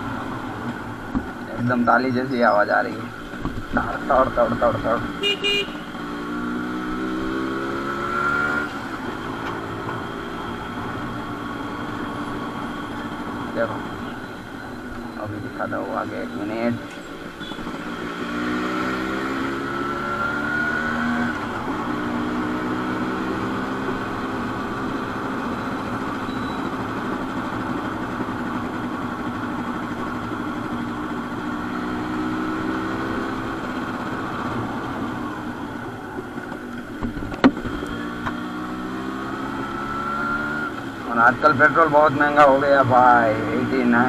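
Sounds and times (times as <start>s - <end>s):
two-stroke motorcycle engine revving: 3.8s - 14.3s, 15.6s - 35.8s, 37.4s - 44.0s.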